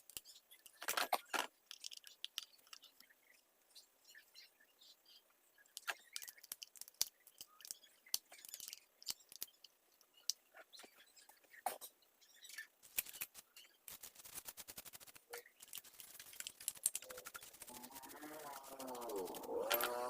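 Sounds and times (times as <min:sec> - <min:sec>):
small parts clicking and scraping: 0:00.0 - 0:03.0, 0:05.7 - 0:20.0.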